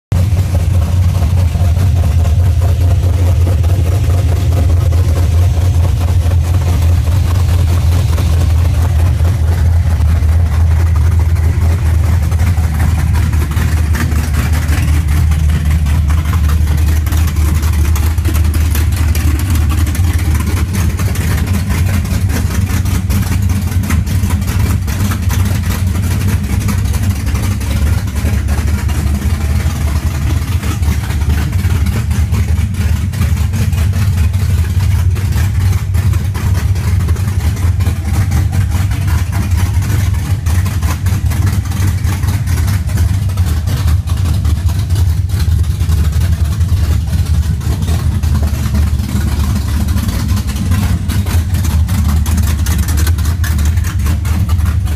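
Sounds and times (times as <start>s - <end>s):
loud choppy engine idling: 0.0s - 54.9s.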